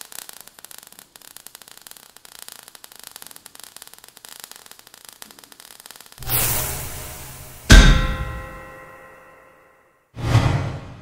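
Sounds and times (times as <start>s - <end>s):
crackling fizz of falling sparks: 0.0s - 9.0s.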